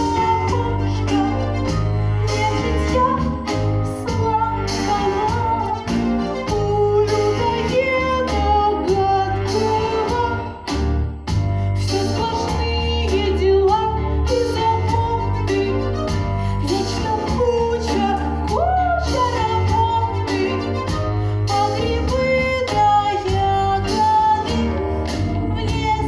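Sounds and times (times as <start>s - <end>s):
heavy bass: 0.0s - 26.0s
sliding melody line: 0.0s - 26.0s.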